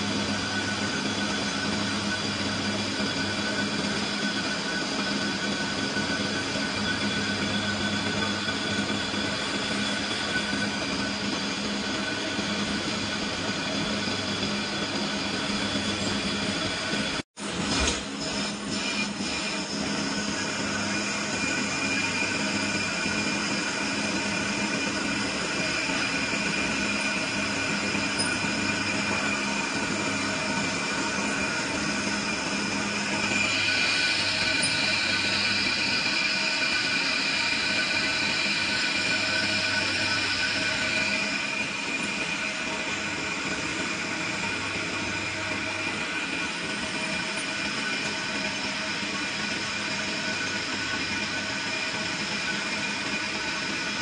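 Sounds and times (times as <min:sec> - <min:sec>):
high tone of tool cutting steel: 0:00.0 - 0:54.0
lathe machine drone: 0:00.0 - 0:54.0.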